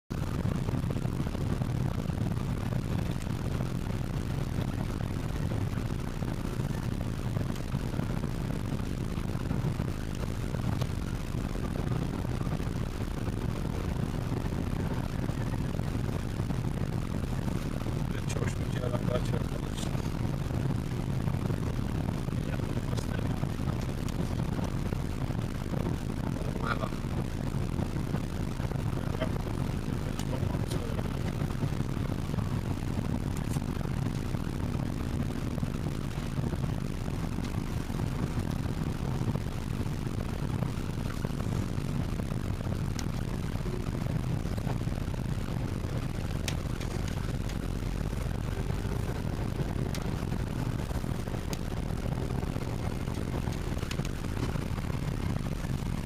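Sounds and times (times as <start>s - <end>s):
car engine rumble: 0.0s - 56.0s
tyre-on-road noise: 0.1s - 56.0s.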